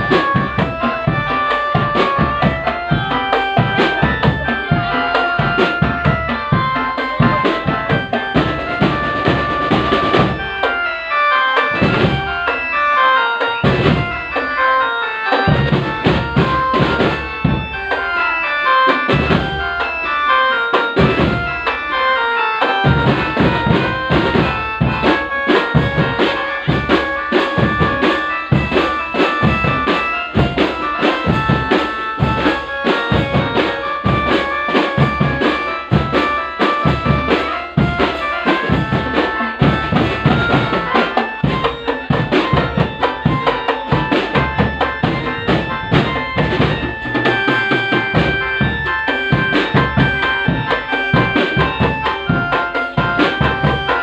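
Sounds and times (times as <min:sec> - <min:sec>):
bass drum and snare beat: 0:00.0 - 0:10.7, 0:15.5 - 0:18.0, 0:22.8 - 0:54.0
held melody: 0:00.0 - 0:54.0.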